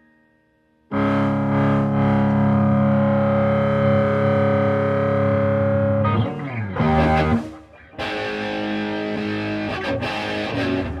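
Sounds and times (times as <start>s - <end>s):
distorted electric guitar chords: 0.9s - 11.0s.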